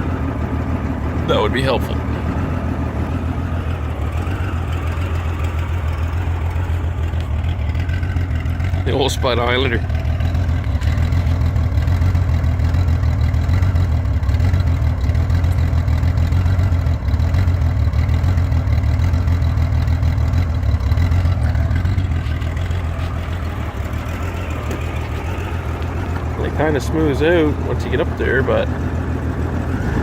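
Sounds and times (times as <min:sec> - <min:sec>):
motorcycle engine idling roughly: 0:00.0 - 0:30.0.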